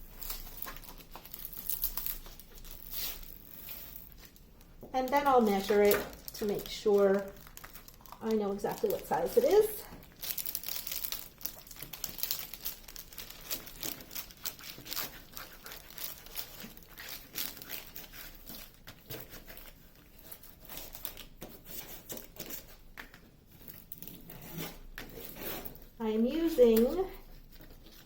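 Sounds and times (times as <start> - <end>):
plastic film crinkling: 0.0 - 28.0.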